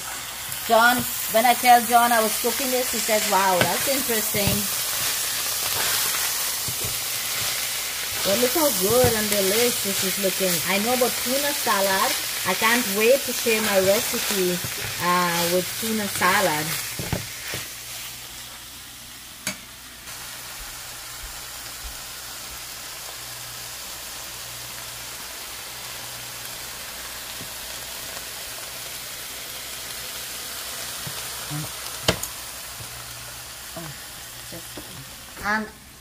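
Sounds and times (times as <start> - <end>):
food sizzling in a frying pan: 0.0 - 36.0.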